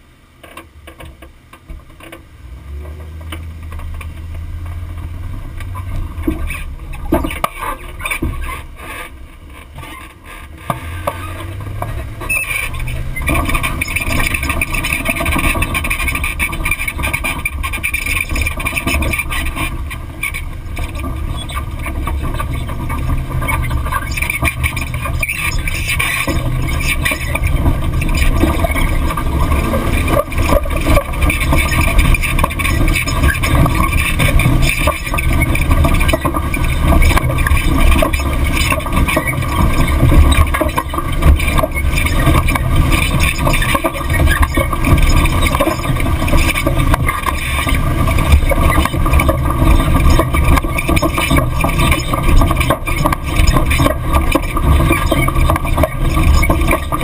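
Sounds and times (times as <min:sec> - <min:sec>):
truck engine running: 0:00.0 - 0:57.0
tyres on dirt road noise: 0:00.0 - 0:57.0
wind rumble: 0:01.8 - 0:57.0.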